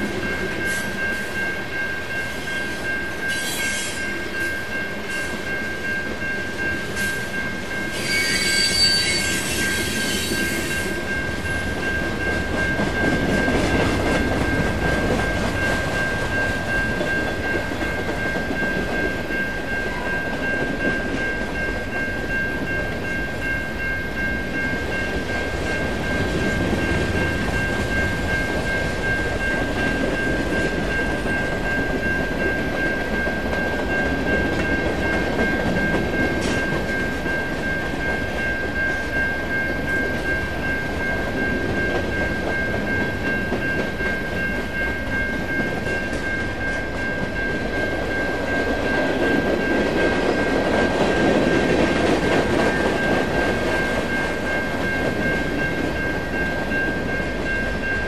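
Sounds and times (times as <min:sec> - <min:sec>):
train rumbling past: 0:00.0 - 0:58.0.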